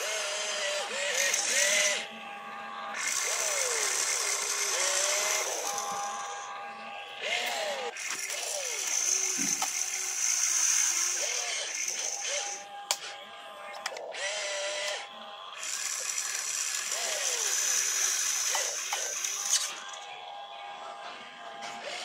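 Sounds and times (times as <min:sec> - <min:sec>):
electric motors whirring: 0:00.0 - 0:22.0.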